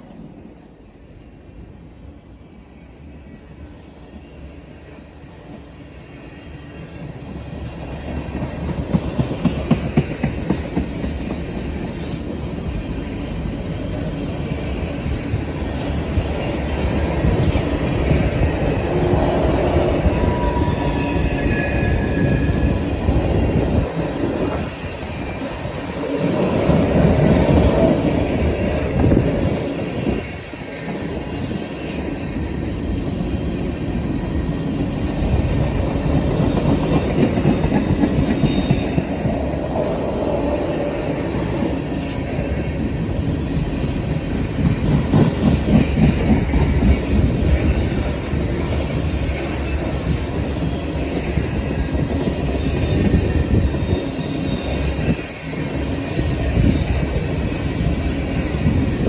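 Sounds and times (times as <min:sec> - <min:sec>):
train wheels rumbling and clacking: 0:04.3 - 0:59.0
high wheel squeals: 0:11.4 - 0:59.0.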